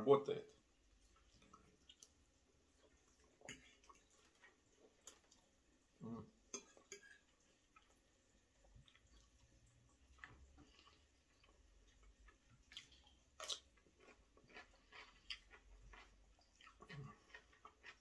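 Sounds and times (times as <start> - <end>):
person chewing: 1.0 - 5.6, 6.5 - 18.0.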